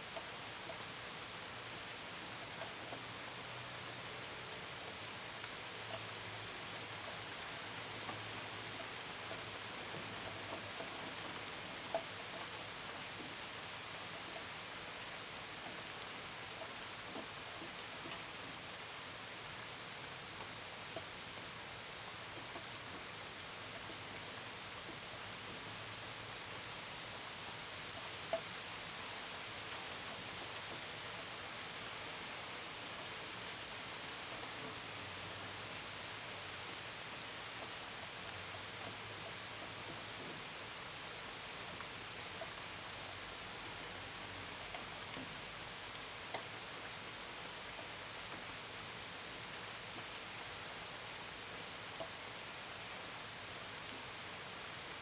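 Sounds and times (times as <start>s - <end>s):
gentle rain hissing: 0.0s - 55.0s.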